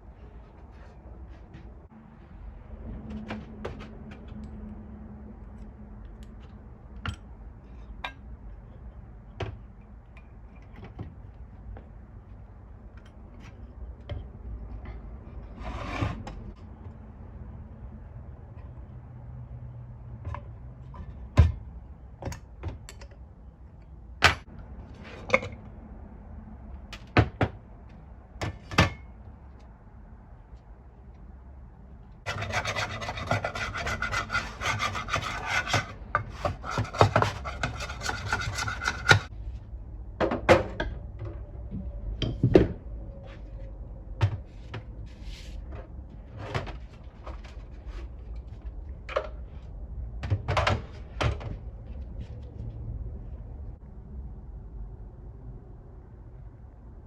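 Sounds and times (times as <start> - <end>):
low workshop rumble: 0.0 - 57.0.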